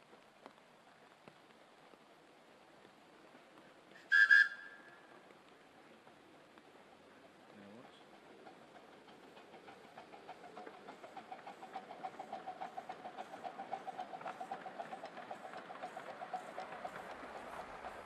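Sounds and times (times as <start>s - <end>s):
miniature train running past: 0.0s - 18.0s.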